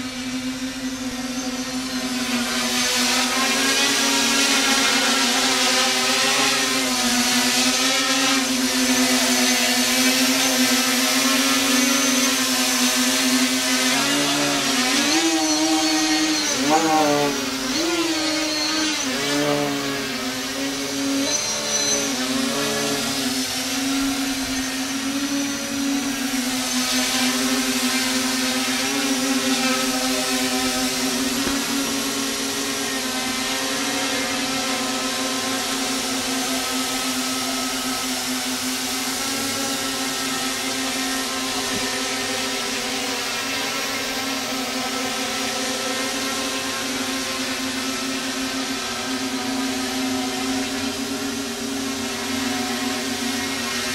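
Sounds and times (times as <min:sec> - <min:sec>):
quadcopter motors buzzing whine: 0:00.0 - 0:53.9.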